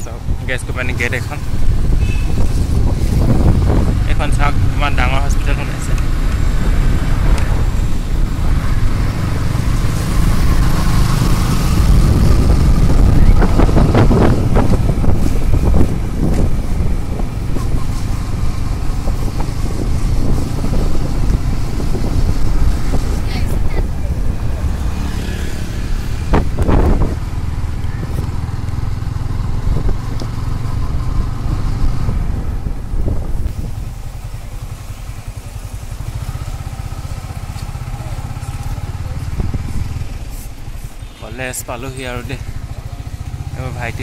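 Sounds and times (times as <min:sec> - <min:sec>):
wind buffeting microphone: 0:00.0 - 0:04.8, 0:05.9 - 0:41.0
road and engine noise: 0:00.0 - 0:44.0.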